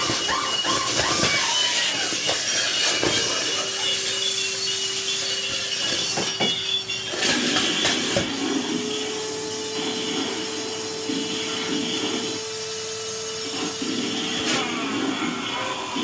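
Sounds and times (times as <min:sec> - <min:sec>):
vacuum cleaner whine and hiss: 0:00.0 - 0:16.0
vacuum nozzle rubbing over surfaces: 0:00.0 - 0:16.0.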